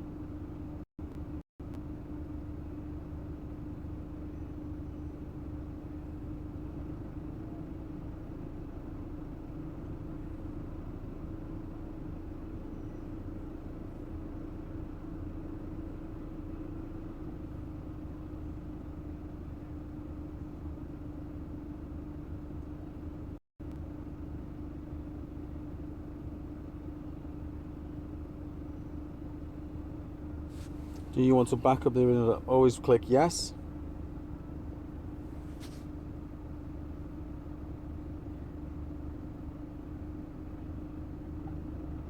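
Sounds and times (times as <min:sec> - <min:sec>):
steady low background hum: 0:08.2 - 0:42.0.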